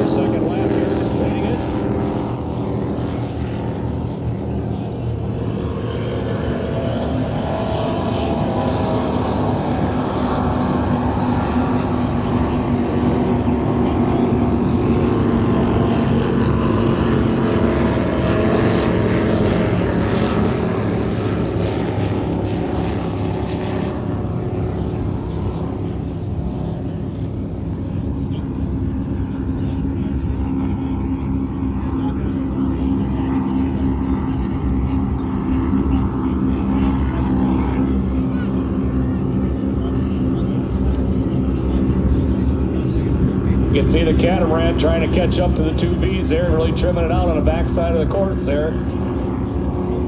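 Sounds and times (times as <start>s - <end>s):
powerboat engines running hard: 0.0s - 50.0s.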